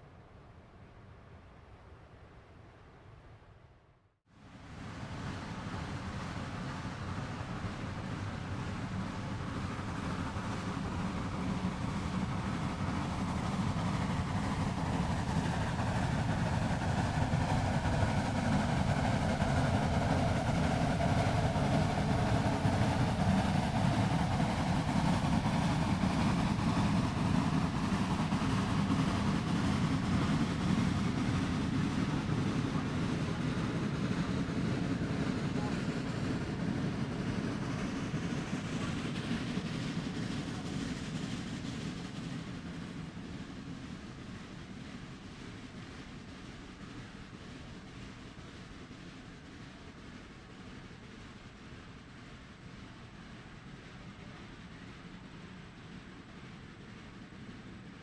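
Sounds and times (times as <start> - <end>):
train rumbling: 5.0 - 58.0.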